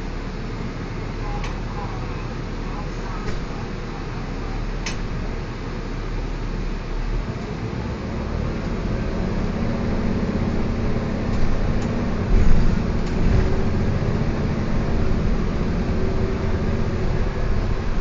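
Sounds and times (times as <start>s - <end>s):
bus engine and drivetrain hum: 0.0s - 18.0s
road noise: 0.0s - 18.0s.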